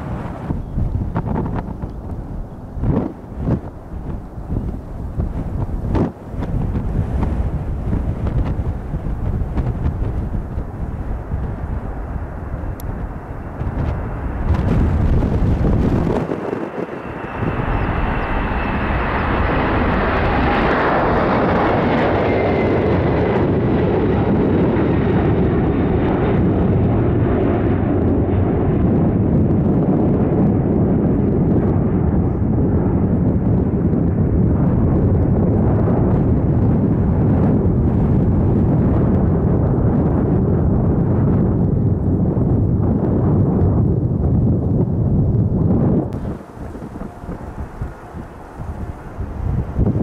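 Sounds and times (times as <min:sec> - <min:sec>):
jet engine whine: 0:00.0 - 0:50.0
jet engines passing overhead: 0:00.0 - 0:50.0.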